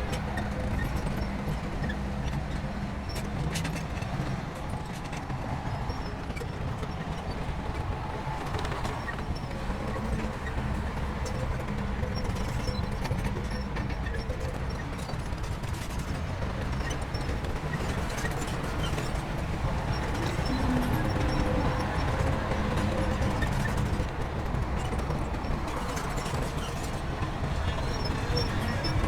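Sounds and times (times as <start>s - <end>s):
diesel construction machinery running: 0.0s - 29.0s.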